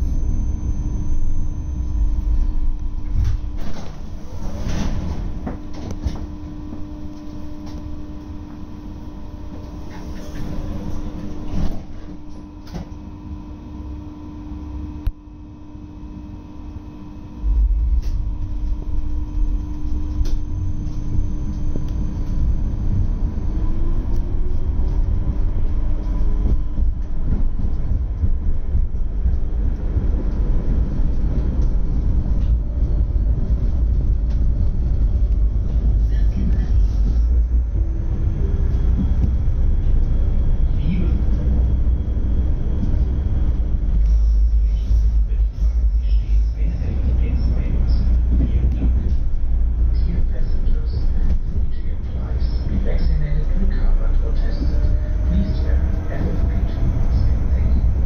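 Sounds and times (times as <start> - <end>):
wheels rumbling on rails: 0.0 - 12.4, 17.4 - 58.0
tram interior hum: 0.0 - 58.0.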